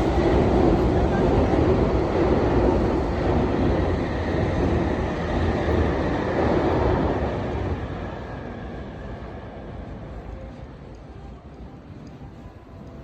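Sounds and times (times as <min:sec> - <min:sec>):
train cars on rails: 0:00.0 - 0:13.0.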